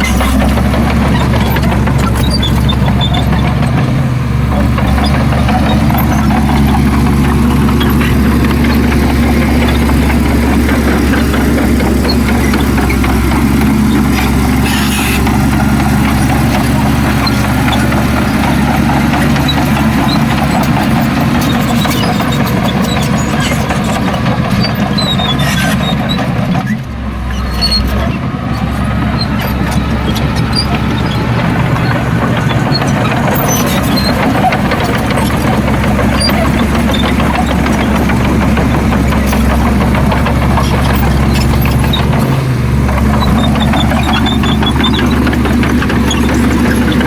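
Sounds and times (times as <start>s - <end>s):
clanks and rattles: 0.0s - 47.0s
heavy diesel engine running: 0.0s - 47.0s.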